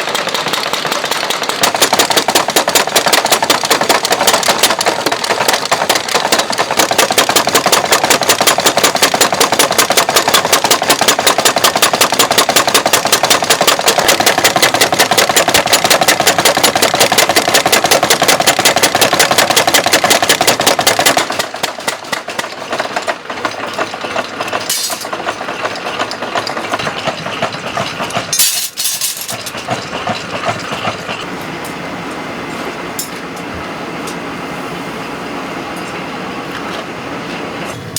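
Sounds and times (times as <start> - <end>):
power hammer pounding: 0.0 - 31.3
workshop clatter: 0.0 - 37.9.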